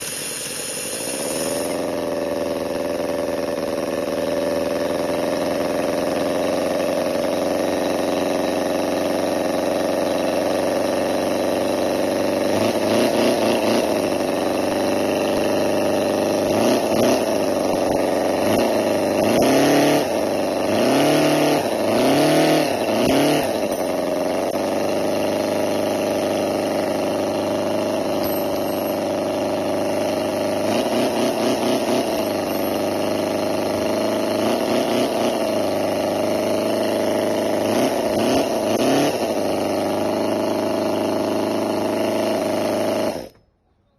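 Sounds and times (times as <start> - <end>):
model engine running and revving: 0.0 - 43.4.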